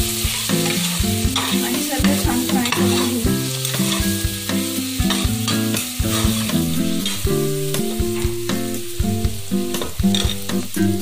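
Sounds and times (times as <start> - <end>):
background music of held notes: 0.0 - 11.0
vegetables sizzling in oil: 0.0 - 11.0.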